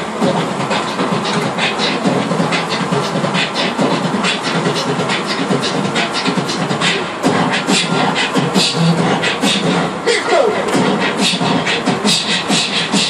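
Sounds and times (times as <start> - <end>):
woman beatboxing: 0.0 - 13.0.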